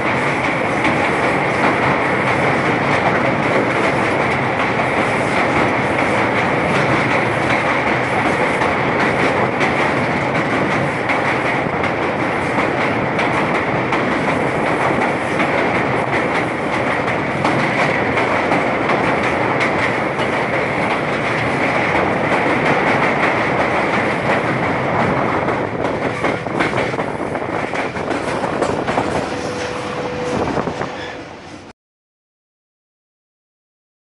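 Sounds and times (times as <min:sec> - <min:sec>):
train wheels rumbling on rails: 0:00.0 - 0:31.7.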